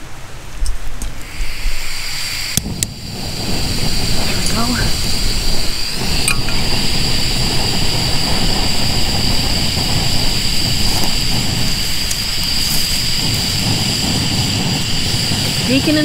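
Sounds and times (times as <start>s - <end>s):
camp stove burner hissing: 0.0s - 16.0s.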